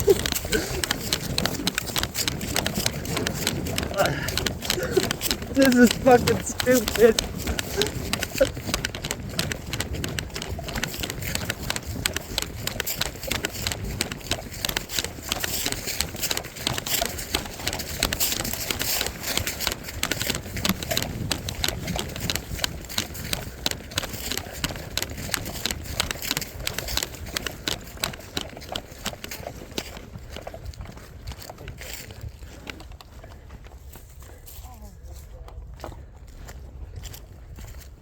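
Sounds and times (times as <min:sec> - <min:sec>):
running footsteps through brush: 0:00.0 - 0:38.0.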